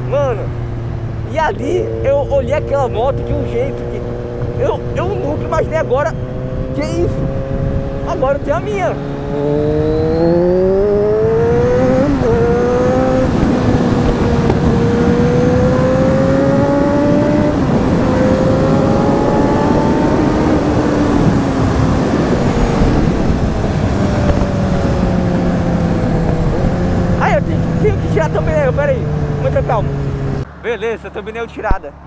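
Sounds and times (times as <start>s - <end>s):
wind rush: 0.7s - 30.5s
motorcycle engine under throttle: 0.8s - 30.4s.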